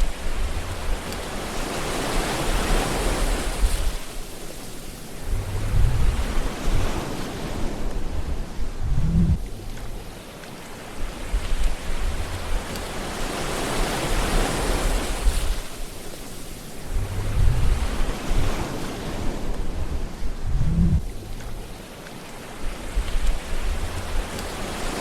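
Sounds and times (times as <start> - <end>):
sea waves washing in: 0.0 - 25.0
wave surging with low rumble: 0.0 - 25.0.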